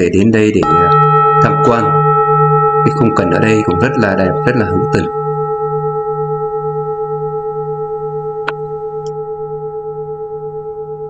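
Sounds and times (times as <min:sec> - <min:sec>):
singing bowl ringing: 0:00.6 - 0:11.0.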